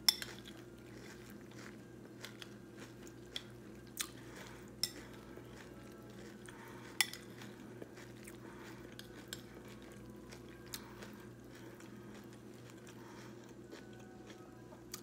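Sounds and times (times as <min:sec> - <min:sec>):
low steady hum: 0:00.0 - 0:15.0
chewing cereal: 0:00.1 - 0:15.0.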